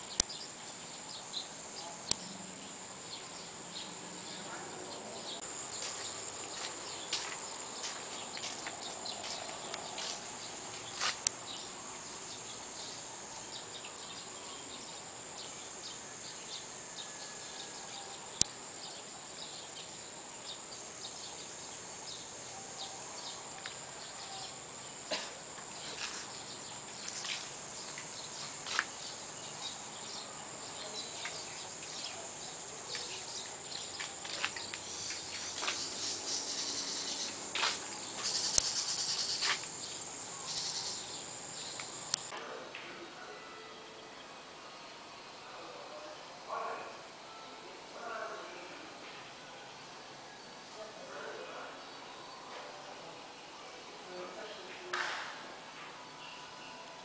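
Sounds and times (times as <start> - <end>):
insect chorus: 0.0 - 42.4, 43.1 - 55.6.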